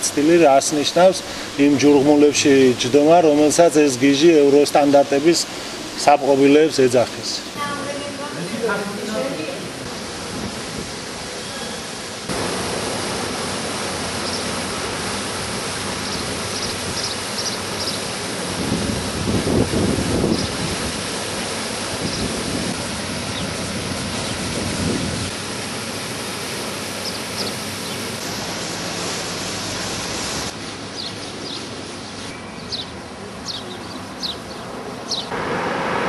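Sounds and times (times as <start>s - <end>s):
fountain water splashing: 0.0s - 36.0s.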